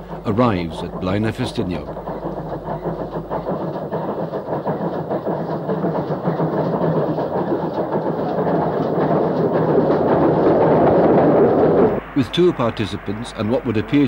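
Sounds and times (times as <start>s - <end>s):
steam locomotive running: 0.0s - 14.0s.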